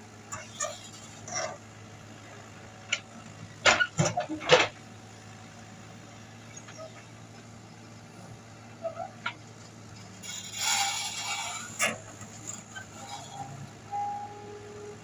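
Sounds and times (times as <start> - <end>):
backhoe engine running: 0.0 - 15.0.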